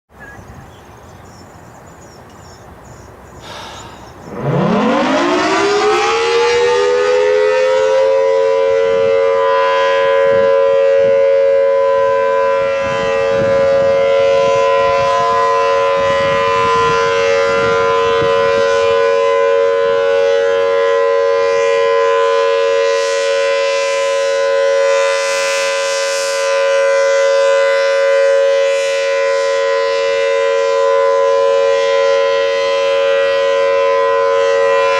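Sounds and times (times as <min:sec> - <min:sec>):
civil defense siren winding up: 0:03.4 - 0:34.9.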